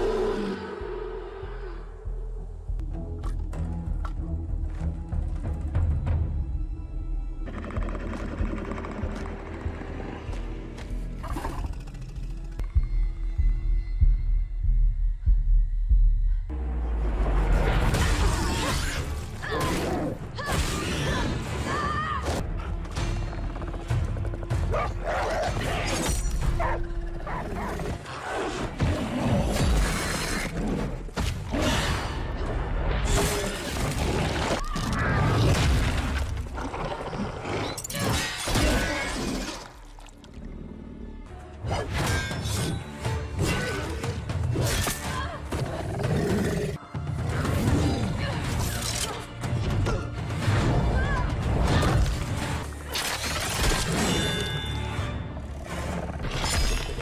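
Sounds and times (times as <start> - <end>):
film score music: 0.0 - 57.0.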